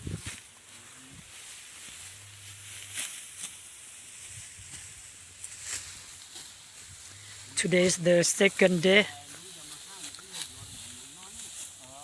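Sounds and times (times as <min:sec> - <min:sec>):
dry stalks rustling: 0:00.0 - 0:12.0.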